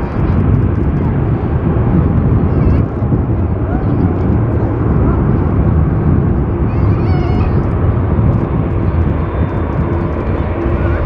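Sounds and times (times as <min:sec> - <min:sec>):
jet engines at taxi power: 0:00.0 - 0:11.0.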